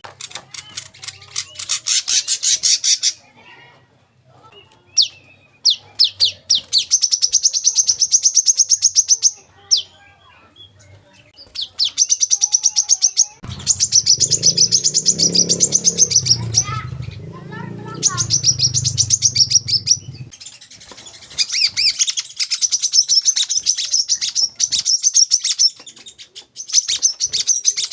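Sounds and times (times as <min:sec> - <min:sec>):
bird singing trills: 0:00.5 - 0:03.3, 0:04.5 - 0:27.9.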